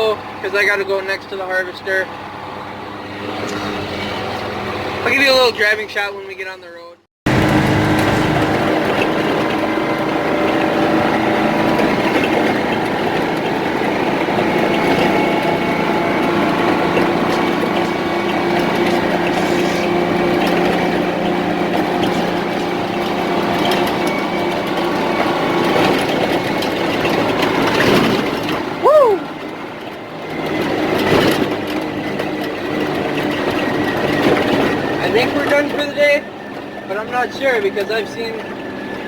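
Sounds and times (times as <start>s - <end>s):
truck diesel engine running: 7.3s - 39.0s.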